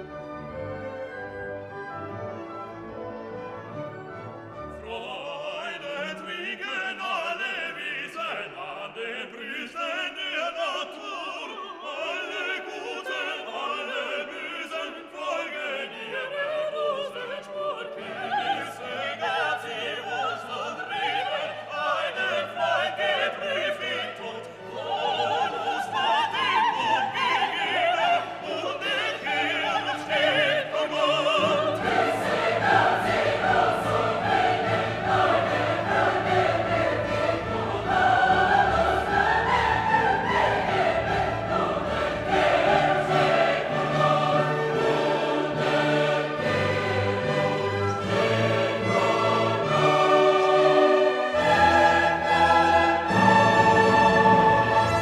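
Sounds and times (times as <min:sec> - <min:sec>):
choir singing: 0:00.0 - 0:55.0
classical orchestral music: 0:00.0 - 0:55.0
operatic singing voices: 0:04.7 - 0:55.0.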